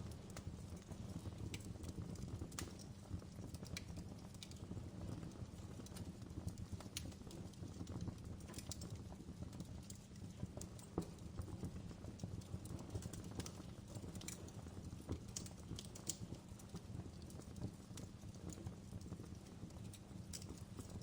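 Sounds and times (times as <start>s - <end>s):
fire crackling and popping: 0.0s - 21.0s
wood fire rumbling: 0.0s - 21.0s.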